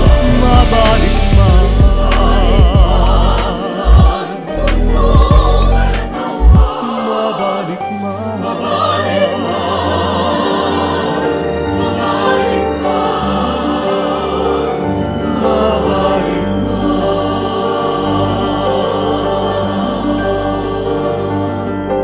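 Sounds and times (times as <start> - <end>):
choir singing held notes: 0.0 - 22.0
low musical accompaniment: 0.0 - 22.0.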